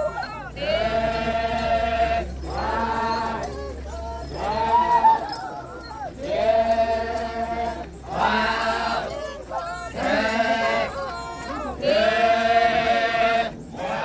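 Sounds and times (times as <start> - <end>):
men chanting in unison: 0.0 - 14.0.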